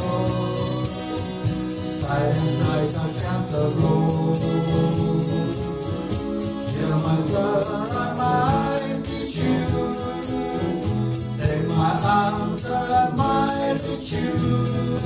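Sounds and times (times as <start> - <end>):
person singing: 0.0 - 1.4, 2.0 - 15.0
acoustic guitars: 0.0 - 15.0
tambourine beat: 0.0 - 15.0.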